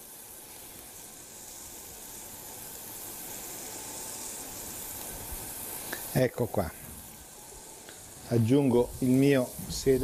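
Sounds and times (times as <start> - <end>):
onion sizzling in oil: 0.0 - 10.0.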